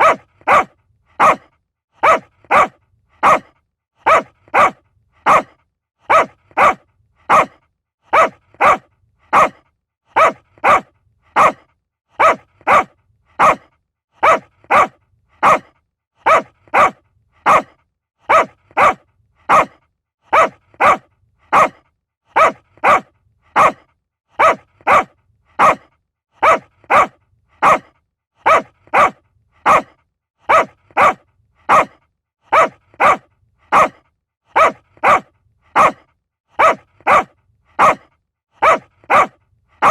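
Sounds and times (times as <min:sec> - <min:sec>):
small dog barking: 0:00.0 - 0:39.9.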